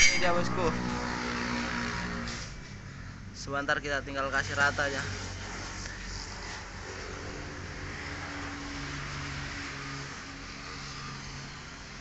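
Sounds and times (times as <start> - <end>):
steady background noise: 0.0 - 12.0
vehicle engine humming: 0.0 - 12.0.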